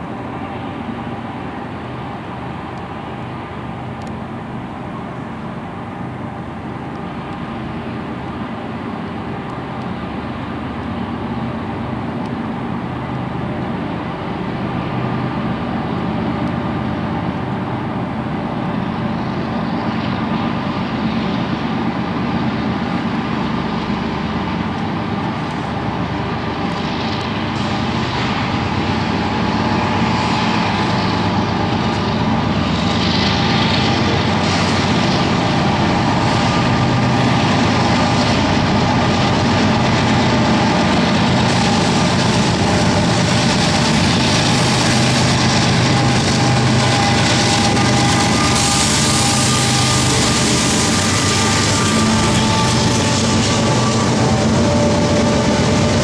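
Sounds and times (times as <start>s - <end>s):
diesel locomotive engines humming: 0.0s - 56.0s.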